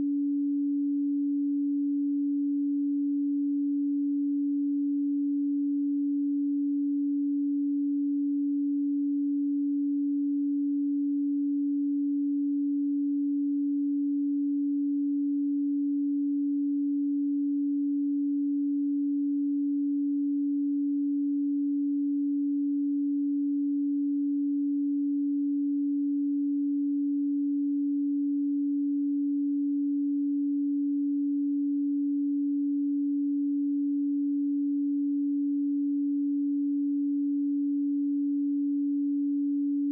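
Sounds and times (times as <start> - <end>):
sine tone: 0.0 - 39.9.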